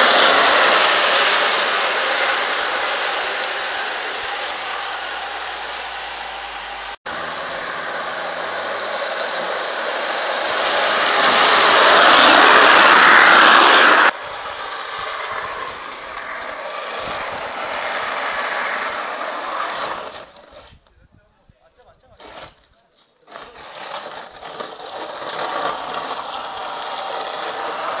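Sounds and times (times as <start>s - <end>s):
cart wheels rolling on asphalt: 0.0s - 20.9s, 21.8s - 28.0s.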